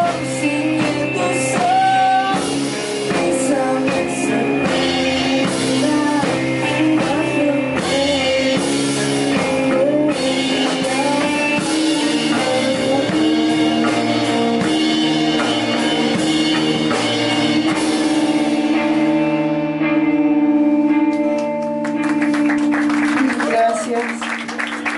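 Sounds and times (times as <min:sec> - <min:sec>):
rock song with singer: 0:00.0 - 0:24.0.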